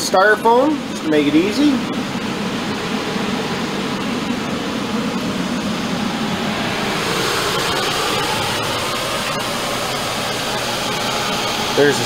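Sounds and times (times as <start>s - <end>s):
blower fan rushing: 0.0s - 12.0s.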